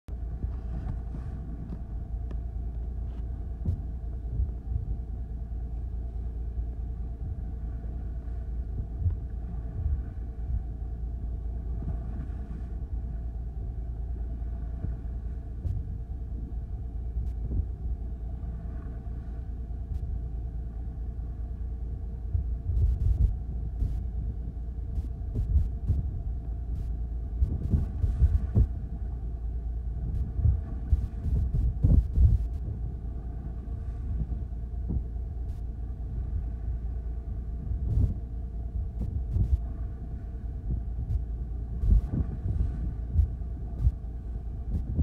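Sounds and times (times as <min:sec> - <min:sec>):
boat engine rumbling: 0:00.1 - 0:45.0.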